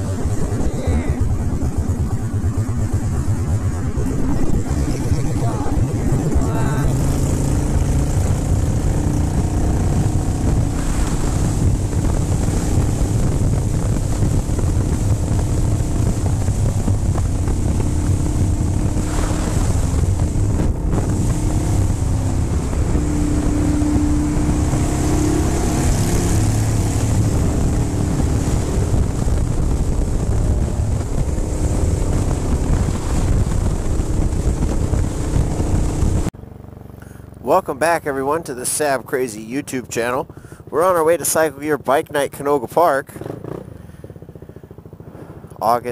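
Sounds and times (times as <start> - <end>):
wind rush on microphone: 0.0 - 36.4, 37.8 - 45.9
motorcycle engine drone: 0.0 - 45.9.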